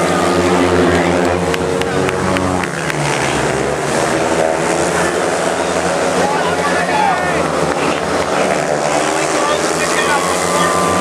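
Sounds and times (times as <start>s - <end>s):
motorcycle engines racing: 0.0s - 11.0s.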